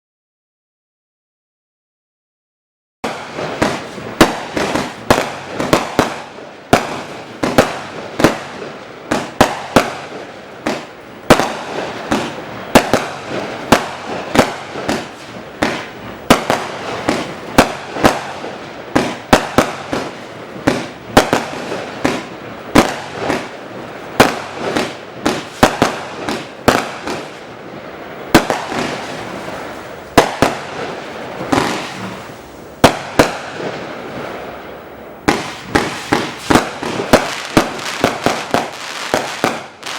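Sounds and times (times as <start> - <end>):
fireworks shots and bursts: 3.0 - 39.9.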